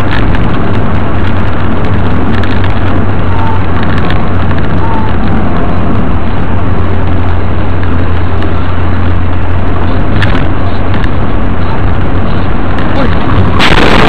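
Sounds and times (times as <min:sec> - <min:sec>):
car cabin engine and road drone: 0:00.0 - 0:14.0.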